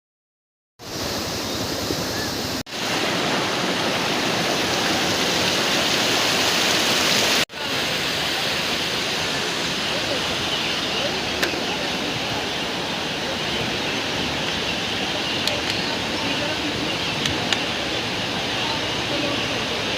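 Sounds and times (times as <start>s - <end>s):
waterfall rushing: 0.8s - 19.9s.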